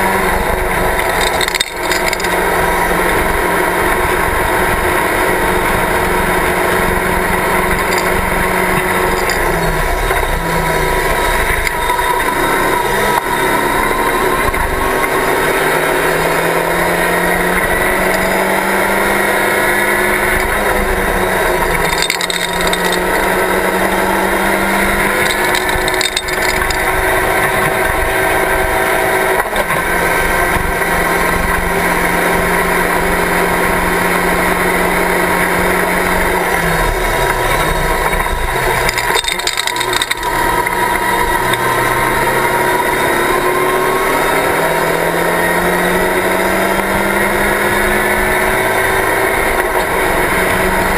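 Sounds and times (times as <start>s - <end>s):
race car engine at high revs: 0.0s - 50.9s.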